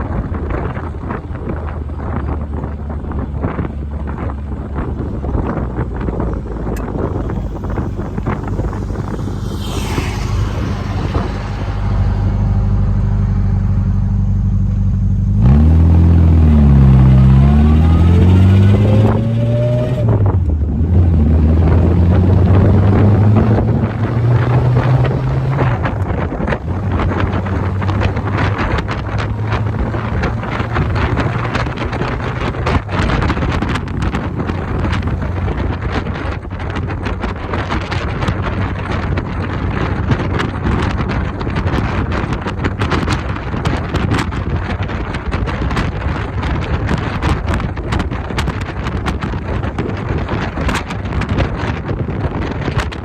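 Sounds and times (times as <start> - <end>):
car engine accelerating: 0.0 - 53.0
wind buffeting microphone: 0.0 - 53.0.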